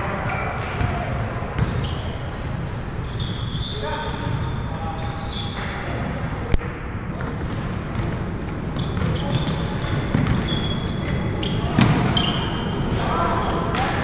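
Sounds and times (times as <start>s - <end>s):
sneaker squeaks: 0.2s - 6.8s, 7.4s - 14.0s.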